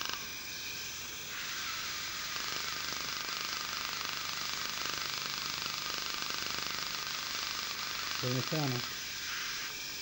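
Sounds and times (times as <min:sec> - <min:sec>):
dental laser popping with hiss: 0:01.4 - 0:09.7.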